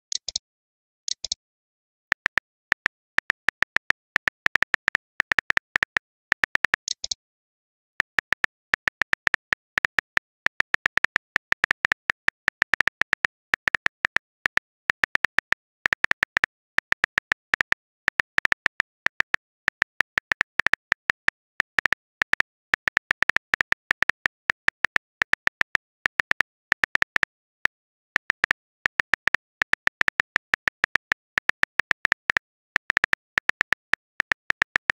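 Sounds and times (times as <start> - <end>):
phone keyboard typing clicks: 2.1 - 7.2, 8.0 - 34.9.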